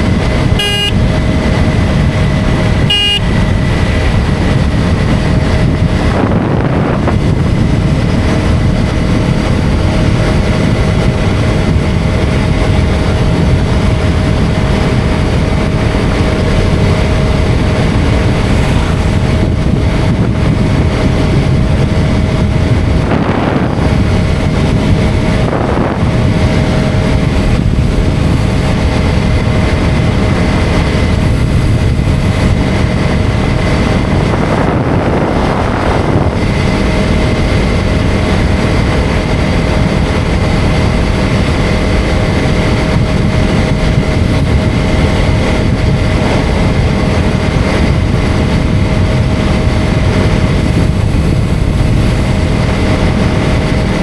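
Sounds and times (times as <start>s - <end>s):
motorcycle engine cruising: 0.0s - 54.0s
wind on microphone: 0.0s - 54.0s.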